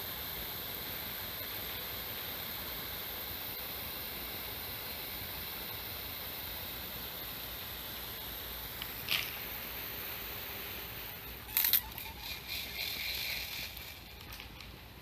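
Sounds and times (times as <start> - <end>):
sprinkler spraying water: 0.0 - 15.0.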